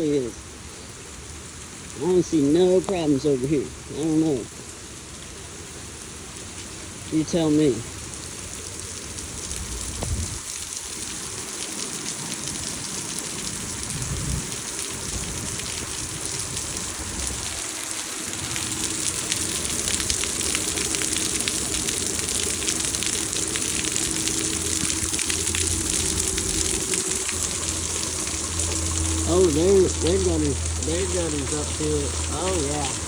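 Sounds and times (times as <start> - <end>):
heavy rain pattering: 0.0 - 33.0.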